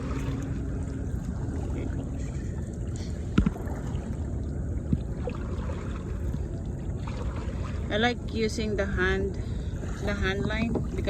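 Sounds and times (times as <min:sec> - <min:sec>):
water and wind rumble: 0:00.0 - 0:11.0.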